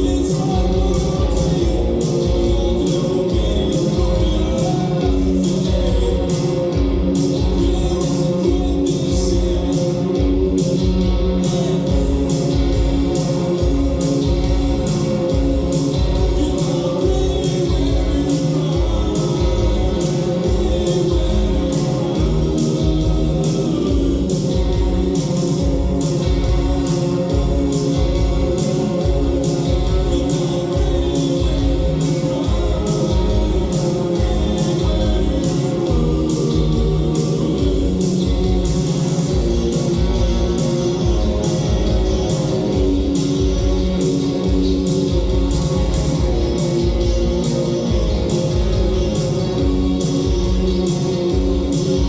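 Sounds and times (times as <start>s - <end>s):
person singing: 0.0s - 52.0s.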